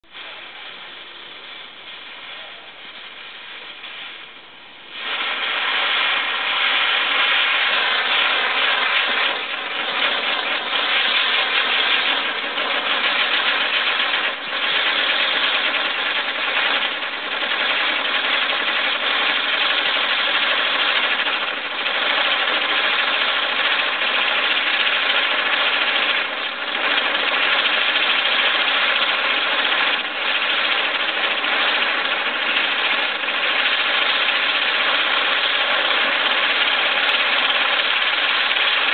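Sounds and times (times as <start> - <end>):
spinning firework wheel rushing: 0.0 - 38.9.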